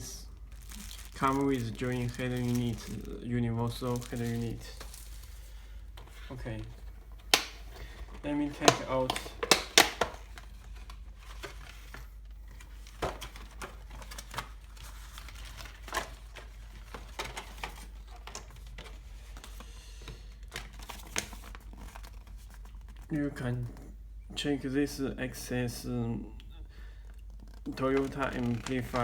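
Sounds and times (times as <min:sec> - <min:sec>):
plastic packaging crinkling: 0:00.0 - 0:19.6, 0:20.2 - 0:23.1, 0:27.0 - 0:29.0.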